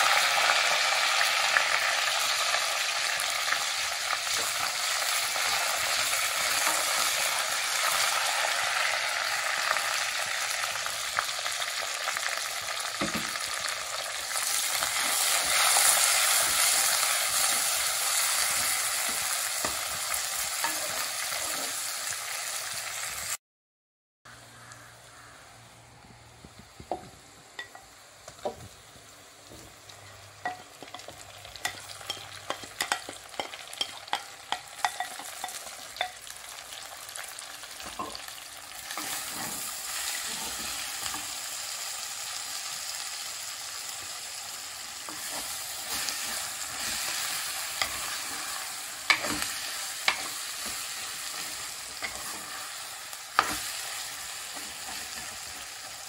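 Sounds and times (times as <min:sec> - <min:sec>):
frying sizzle: 0:00.0 - 0:23.4, 0:24.3 - 0:56.0.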